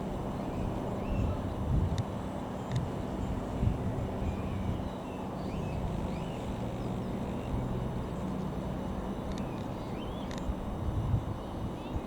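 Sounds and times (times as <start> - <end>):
distant engine drone: 0.0 - 12.0
small birds chirping: 0.2 - 8.7, 9.3 - 10.6.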